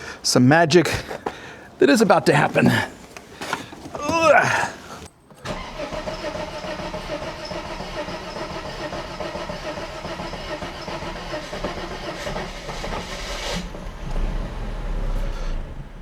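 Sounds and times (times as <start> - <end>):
car engine idling: 0.9 - 16.0.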